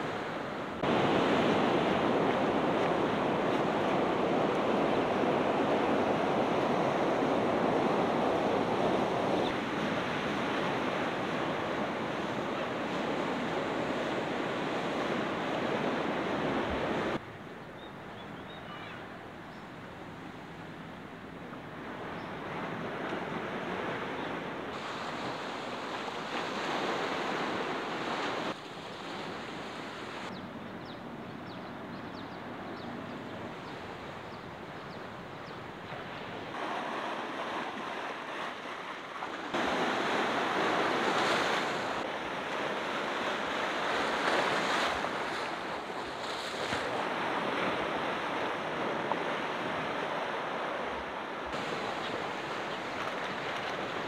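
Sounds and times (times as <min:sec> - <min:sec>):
sea waves breaking on shore: 0:00.0 - 0:17.2, 0:21.5 - 0:30.3, 0:33.4 - 0:54.0.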